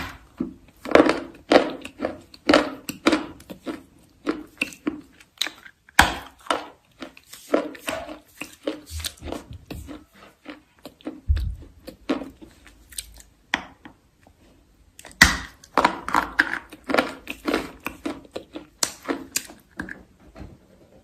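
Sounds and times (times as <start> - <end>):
crisp food crunching: 0.0 - 13.4, 15.0 - 20.1.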